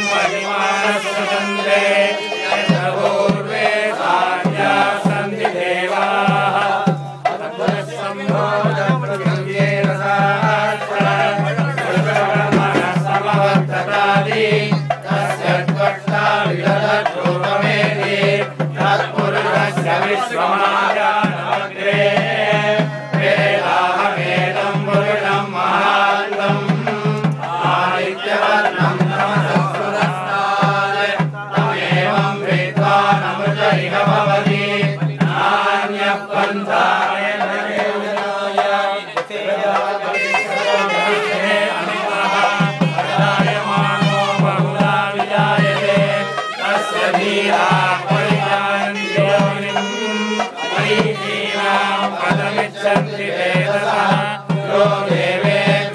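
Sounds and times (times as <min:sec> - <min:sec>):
men chanting in unison: 0:00.0 - 0:55.9.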